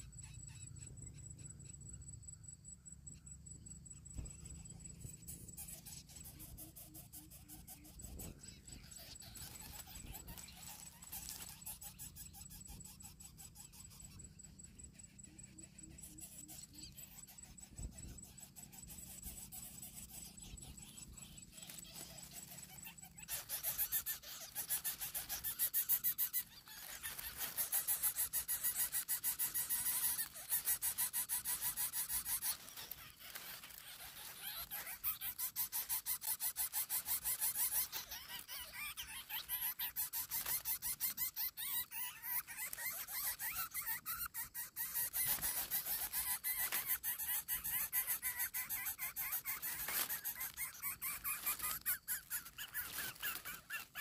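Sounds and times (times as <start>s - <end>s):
nestlings rasping begging calls: 0.0s - 2.0s, 3.0s - 54.0s.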